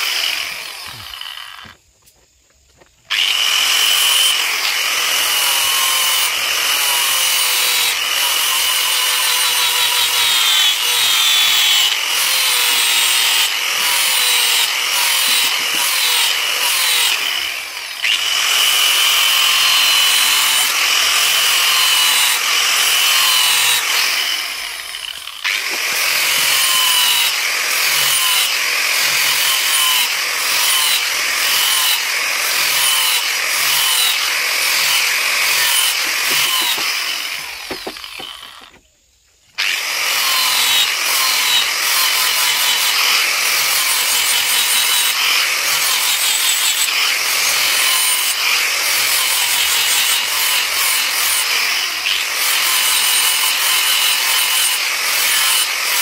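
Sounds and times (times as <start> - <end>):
angle grinder grinding steel blade: 0.0 - 1.8, 3.1 - 38.8, 39.6 - 56.0.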